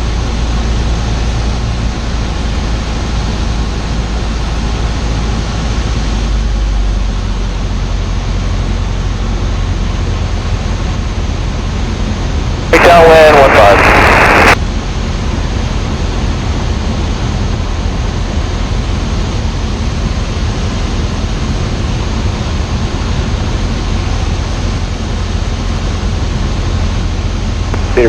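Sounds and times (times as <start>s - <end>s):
aircraft engine and propeller drone: 0.0s - 28.0s.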